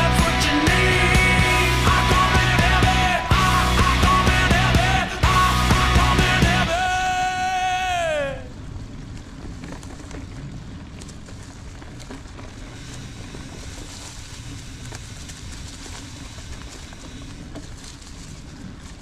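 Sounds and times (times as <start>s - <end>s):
bike tyres rumbling on trail: 0.0s - 19.0s.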